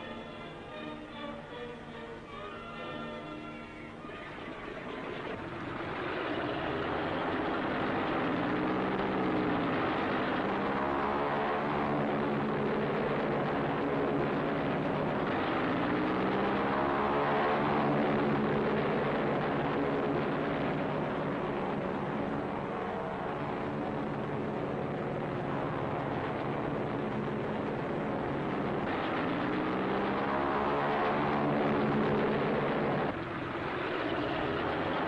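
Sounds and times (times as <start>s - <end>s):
propeller engines running: 0.0s - 35.0s.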